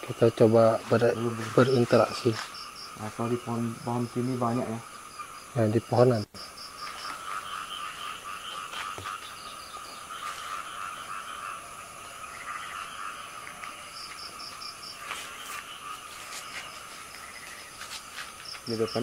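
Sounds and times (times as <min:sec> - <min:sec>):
frogs calling: 0:00.0 - 0:19.0
insects calling: 0:00.0 - 0:19.0.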